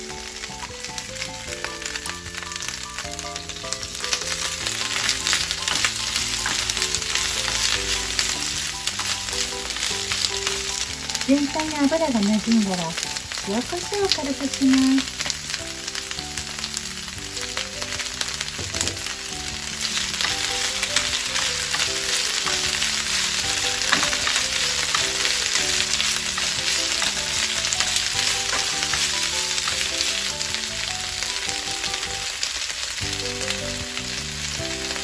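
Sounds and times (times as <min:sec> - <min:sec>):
background music: 0:00.0 - 0:35.0
greens sizzling in frying pan: 0:00.0 - 0:35.0.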